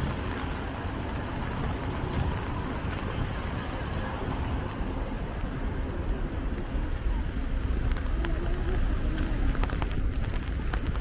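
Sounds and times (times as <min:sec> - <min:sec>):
traffic hiss on wet roads: 0:00.0 - 0:11.0.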